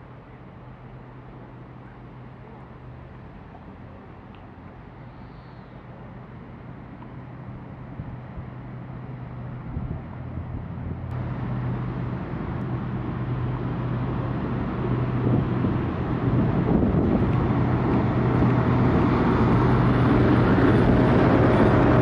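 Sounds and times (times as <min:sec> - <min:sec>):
diesel train engine hum: 0:00.0 - 0:22.0.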